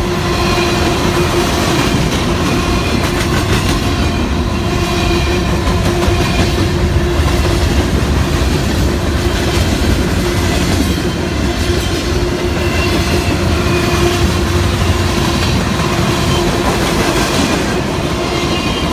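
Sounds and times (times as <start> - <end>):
train wheels rumbling on rail: 0.0 - 18.9
clickety-clack over rail joints: 0.7 - 18.9.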